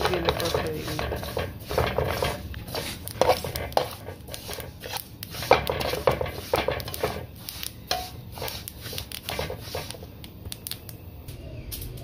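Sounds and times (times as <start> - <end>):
metal spoon scraping a pan: 0.0 - 10.1.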